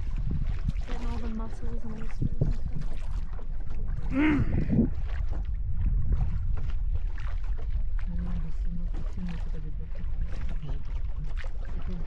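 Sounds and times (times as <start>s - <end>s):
boat engine rumble: 0.0s - 12.0s
small water splashes: 0.0s - 12.0s.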